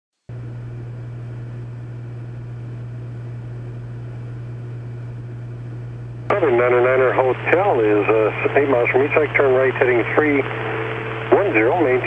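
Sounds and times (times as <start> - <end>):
aircraft engine and propeller drone: 0.3 - 12.0.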